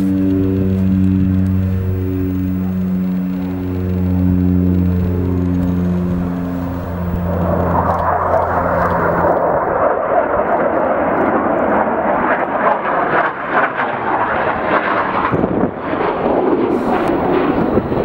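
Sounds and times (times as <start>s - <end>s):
jet fighter roaring past: 0.0s - 18.0s
steady drone: 0.0s - 18.0s.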